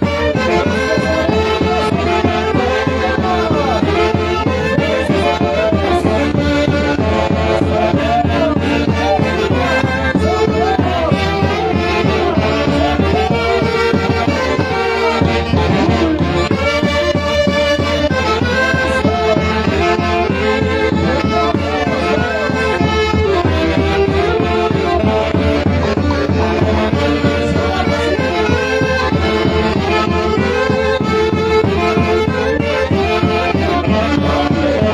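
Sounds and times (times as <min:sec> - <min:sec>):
folk orchestra playing: 0:00.0 - 0:34.9.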